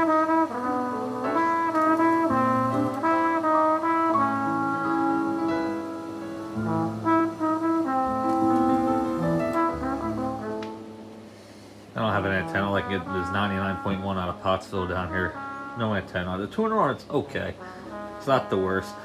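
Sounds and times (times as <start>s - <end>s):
brass music: 0.0s - 19.0s.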